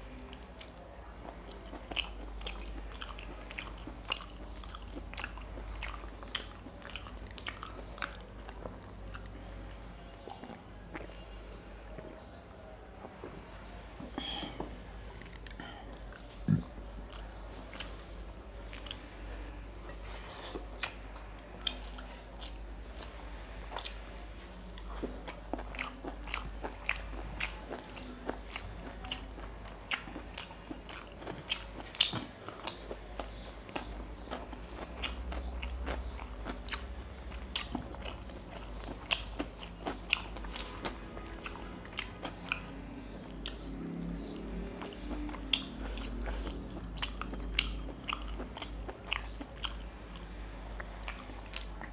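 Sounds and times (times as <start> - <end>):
person chewing and mouth smacking: 0.1 - 11.3, 14.0 - 51.9.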